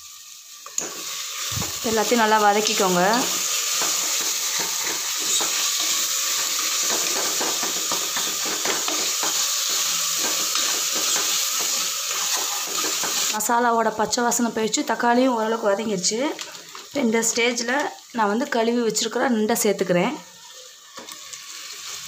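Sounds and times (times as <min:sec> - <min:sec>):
paste sizzling in a pot: 0:00.0 - 0:22.0.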